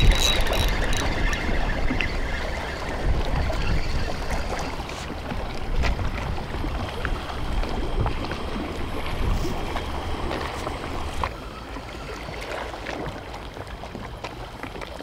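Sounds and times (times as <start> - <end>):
water lapping against breakwater: 0.0 - 15.0
wind rumbling on microphone: 0.0 - 15.0.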